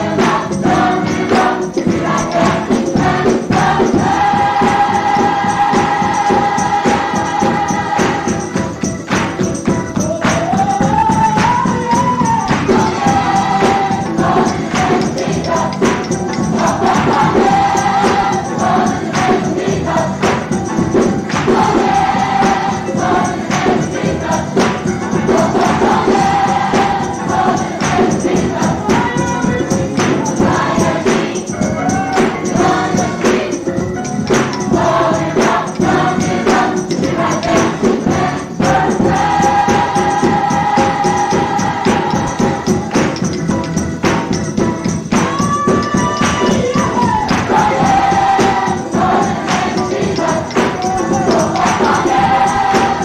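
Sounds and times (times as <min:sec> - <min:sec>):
gospel choir singing: 0:00.0 - 0:53.0
tambourine beat: 0:00.0 - 0:53.0.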